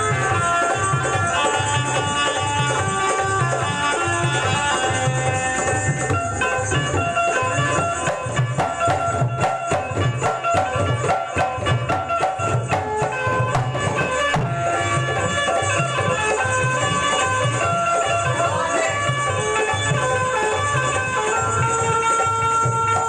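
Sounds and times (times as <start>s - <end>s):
hand drums playing rhythm: 0.0s - 23.0s
keyed banjo melody: 0.0s - 23.0s.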